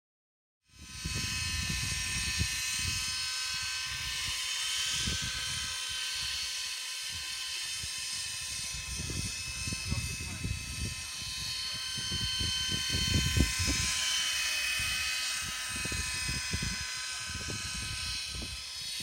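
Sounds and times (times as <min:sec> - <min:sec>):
model helicopter rotor whine: 0:00.7 - 0:19.0
wind buffeting microphone: 0:00.8 - 0:06.4, 0:07.1 - 0:19.0.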